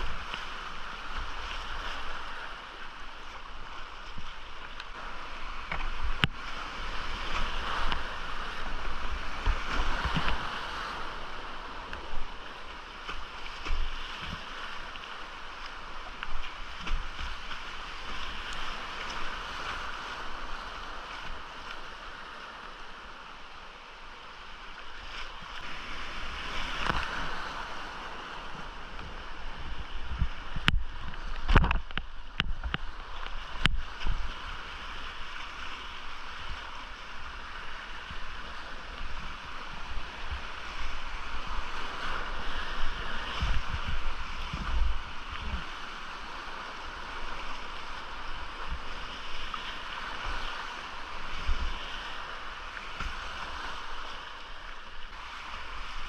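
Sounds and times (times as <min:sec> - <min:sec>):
rushing creek whitewater: 0:00.0 - 0:56.0.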